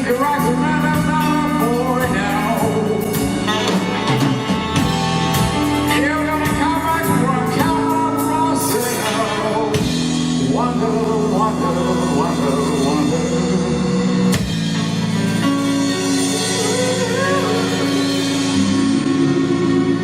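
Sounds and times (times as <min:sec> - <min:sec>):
live band playing pop-soul: 0:00.0 - 0:20.0.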